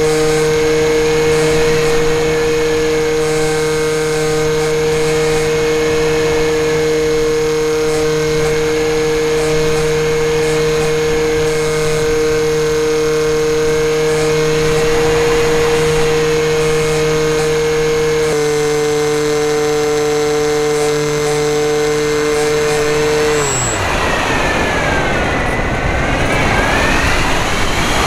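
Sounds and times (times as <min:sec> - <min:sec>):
model plane motor whine: 0:00.0 - 0:28.0
propeller air hiss: 0:00.0 - 0:28.0.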